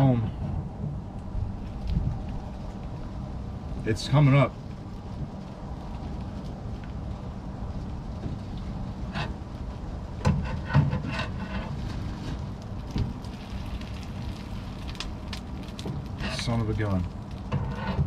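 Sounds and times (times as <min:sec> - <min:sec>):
foam cracking and popping: 0:00.7 - 0:18.0.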